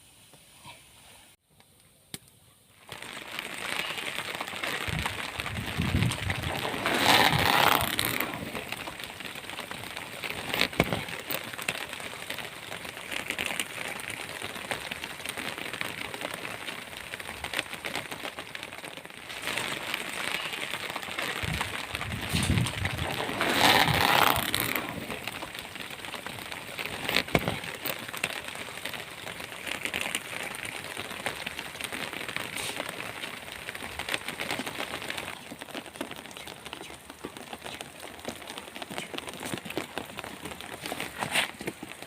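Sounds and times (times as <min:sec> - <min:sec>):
wood fire crackling: 0:01.5 - 0:42.0.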